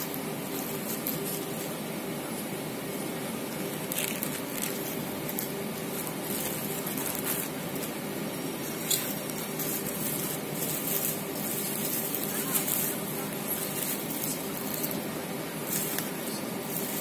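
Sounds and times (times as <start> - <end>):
plastic crinkling and rustling: 0.0 - 1.8, 3.5 - 17.0
room hiss: 0.0 - 17.0.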